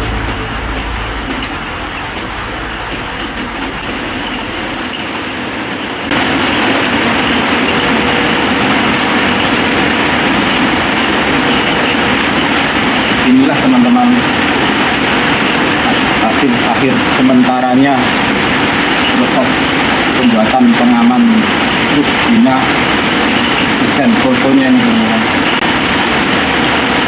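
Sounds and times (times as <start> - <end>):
vehicle rumbling in motion: 0.0 - 27.0.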